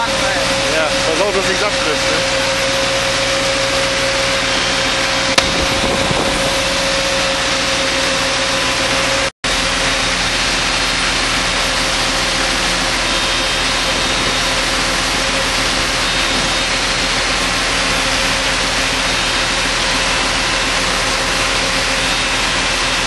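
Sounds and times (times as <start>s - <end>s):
steady whine: 0.0s - 23.0s
tractor and machinery running: 0.0s - 23.0s.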